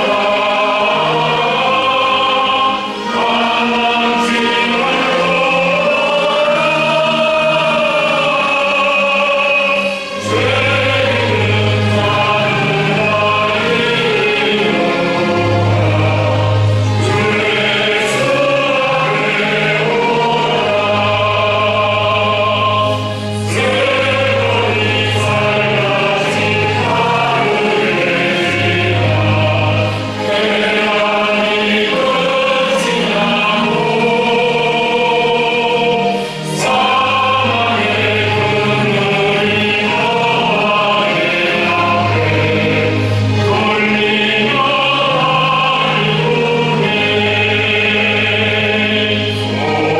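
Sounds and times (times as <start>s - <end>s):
choir singing a hymn: 0.0s - 49.9s
orchestra accompaniment: 0.0s - 49.9s.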